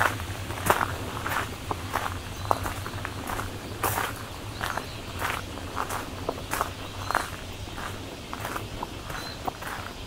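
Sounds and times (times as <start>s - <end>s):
footsteps crunching on gravel: 0.0s - 10.0s.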